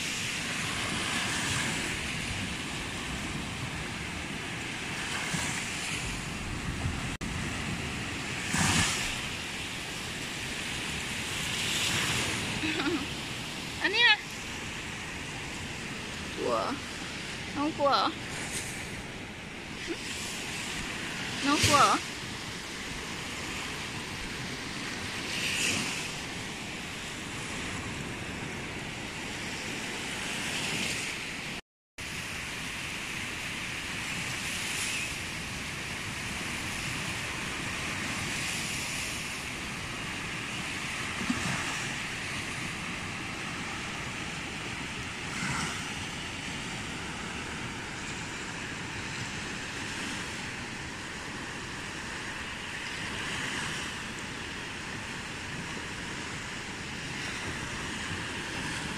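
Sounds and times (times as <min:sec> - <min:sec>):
waves washing onto beach: 0:00.0 - 0:58.9.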